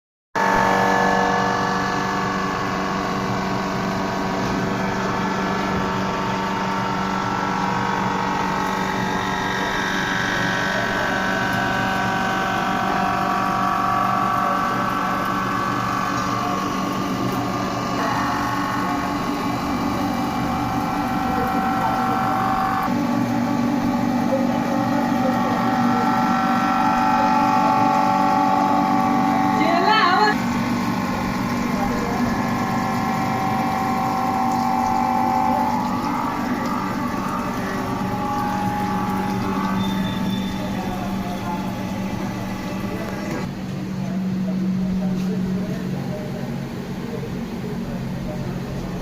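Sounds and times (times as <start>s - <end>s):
resurfacing machine whine: 0.4s - 49.0s.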